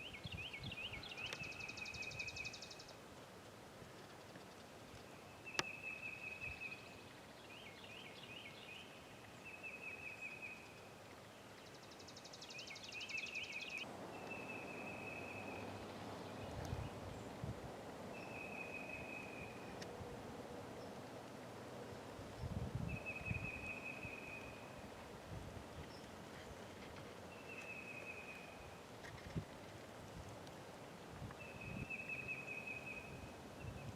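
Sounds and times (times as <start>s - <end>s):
soft rustling hiss: 0.0s - 33.9s.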